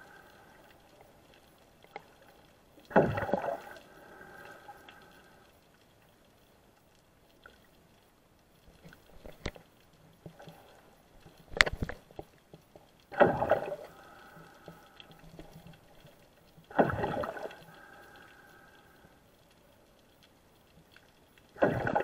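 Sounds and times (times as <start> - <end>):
underwater clicks and crackle: 0.0 - 22.0.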